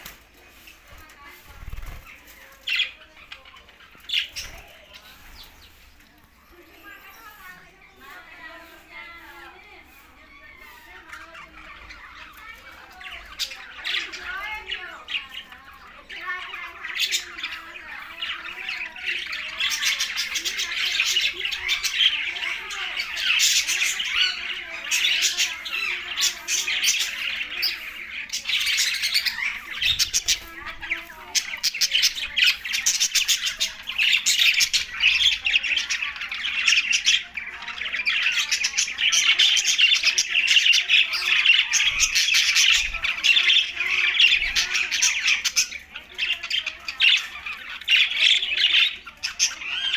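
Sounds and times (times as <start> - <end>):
budgerigars chattering and squawking: 0.0 - 49.9.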